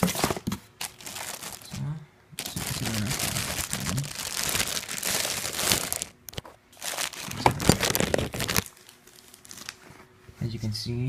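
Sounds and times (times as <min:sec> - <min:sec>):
packaging crinkling: 0:00.1 - 0:01.8, 0:02.4 - 0:10.0.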